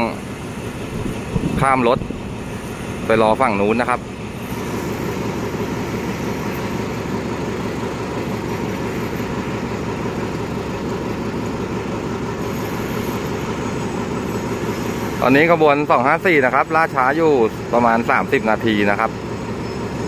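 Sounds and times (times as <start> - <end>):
diesel locomotive idling: 0.0 - 20.0.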